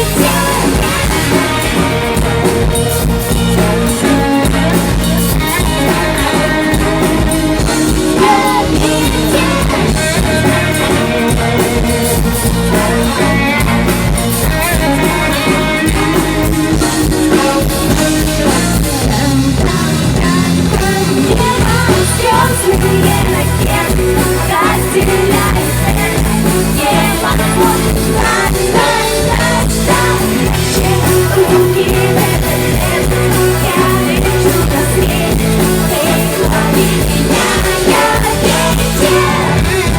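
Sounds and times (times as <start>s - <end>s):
live pop-rock band playing: 0.0s - 39.9s
woman singing: 0.0s - 39.9s.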